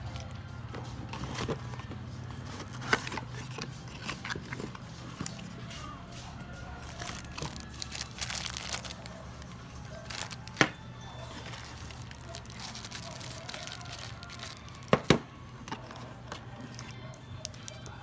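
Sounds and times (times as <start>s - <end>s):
plastic and cardboard rustling: 0.0s - 18.0s.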